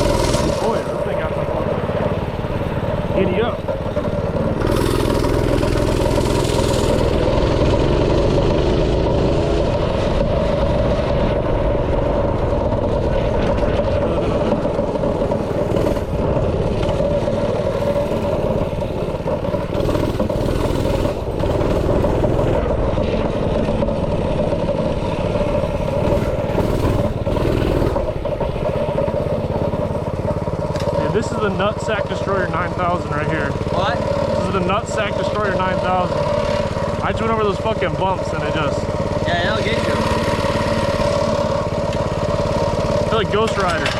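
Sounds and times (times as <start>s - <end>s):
kart engine running: 0.0s - 43.9s.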